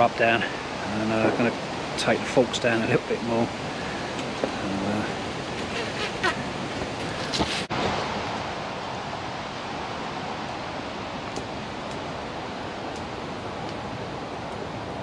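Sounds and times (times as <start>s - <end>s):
campfire rushing: 0.0s - 15.0s
fire crackles: 0.0s - 15.0s.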